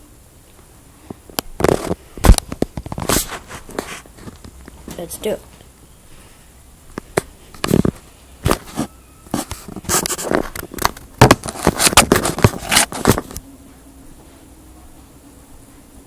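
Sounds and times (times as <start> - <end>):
faint steady hum: 0.0 - 16.0
rustling handling noise: 0.6 - 15.9.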